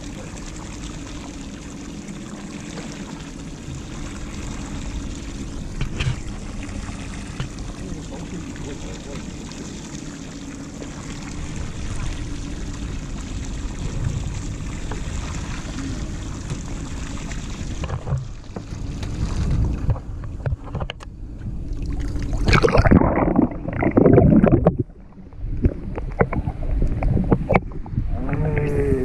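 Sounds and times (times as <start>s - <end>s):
wind and boat running noise: 0.0s - 29.0s.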